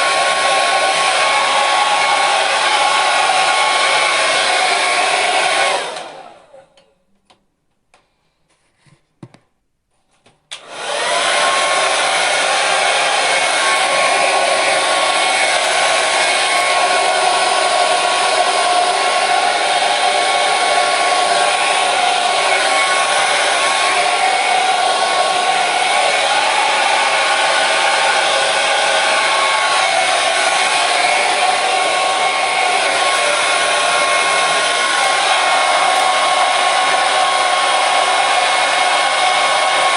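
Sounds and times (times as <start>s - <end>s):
hair dryer blowing: 0.0s - 6.7s, 10.5s - 39.9s.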